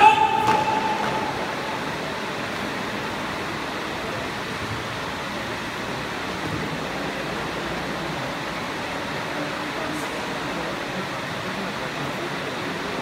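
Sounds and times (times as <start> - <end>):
sports hall background din: 0.0 - 13.0.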